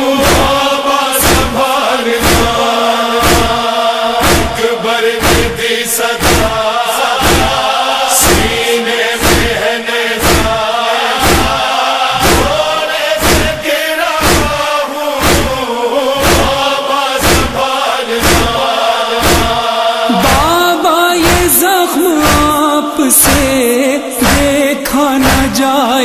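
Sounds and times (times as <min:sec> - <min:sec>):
chorus chanting drone: 0:00.0 - 0:26.0
steady thumping beat: 0:00.1 - 0:25.7.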